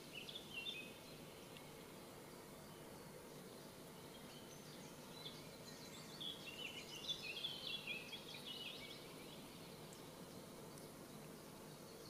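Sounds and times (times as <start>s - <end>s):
faint low background noise: 0.0s - 12.0s
songbird singing: 0.0s - 12.0s.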